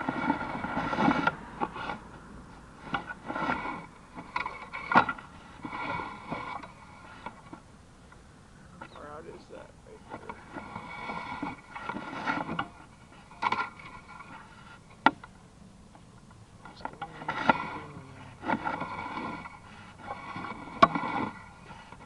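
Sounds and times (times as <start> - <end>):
cable scraping and rustling: 0.0 - 8.2, 8.8 - 22.0.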